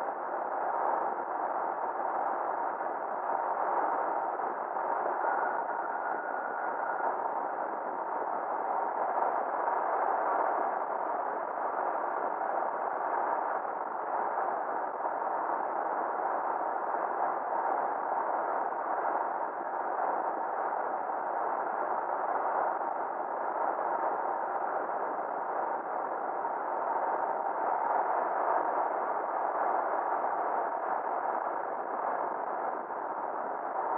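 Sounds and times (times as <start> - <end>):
road and wind noise: 0.0 - 33.9.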